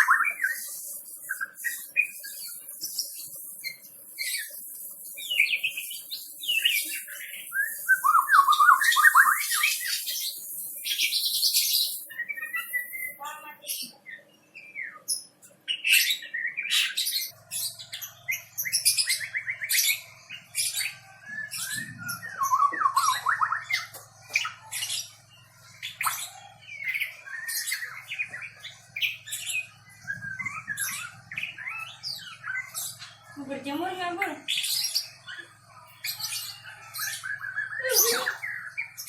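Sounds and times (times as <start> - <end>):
bird singing varied song: 0.0 - 39.0.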